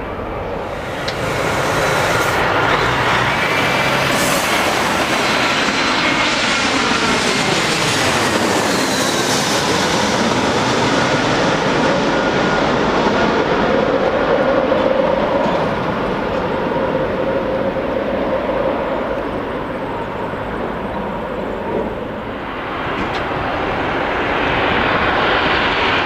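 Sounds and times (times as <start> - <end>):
jet engines passing: 0.0 - 26.0.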